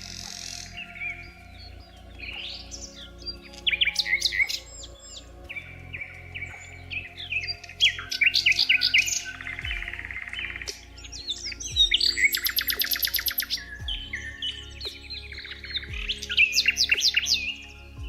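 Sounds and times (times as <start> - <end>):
songbirds chirping and whistling: 0.0 - 18.0.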